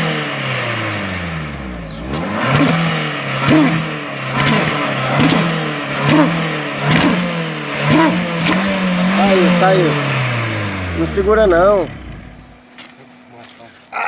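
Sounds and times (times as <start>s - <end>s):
car engine revving: 0.0s - 12.7s
exhaust crack: 0.0s - 12.7s.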